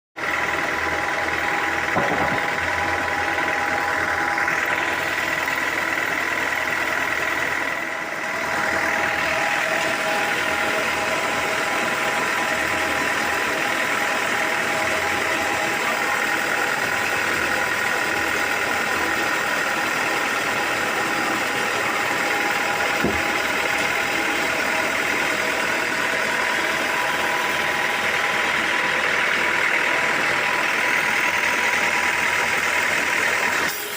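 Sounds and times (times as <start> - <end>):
sawmill machinery drone and whine: 0.2 - 33.9.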